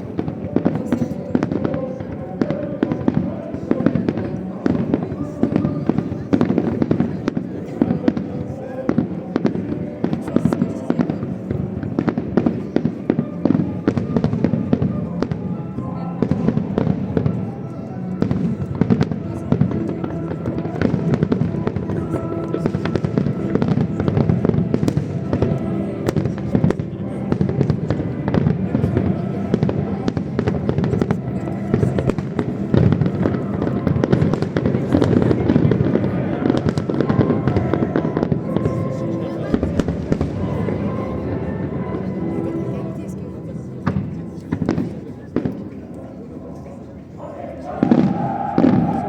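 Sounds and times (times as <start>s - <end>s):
fireworks bursts and bangs: 0.0s - 42.8s, 43.8s - 45.8s, 47.8s - 49.0s.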